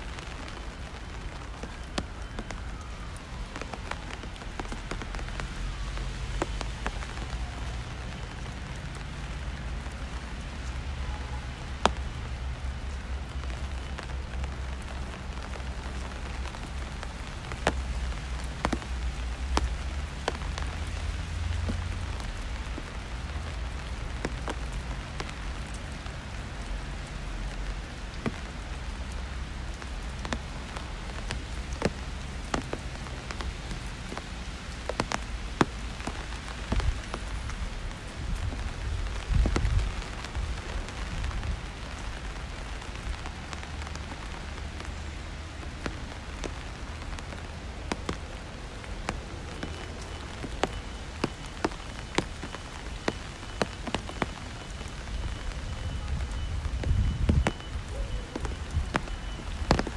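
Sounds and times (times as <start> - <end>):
rain hissing on street: 0.0 - 59.9.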